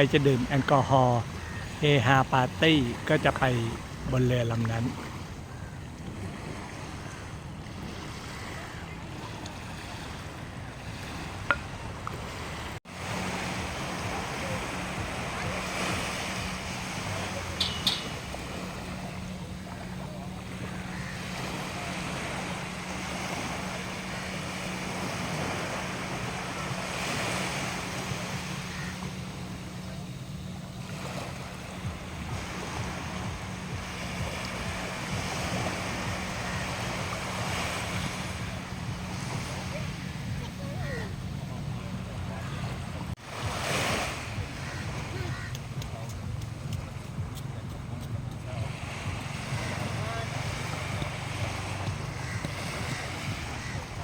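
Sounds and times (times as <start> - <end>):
sea washing: 0.0 - 54.0.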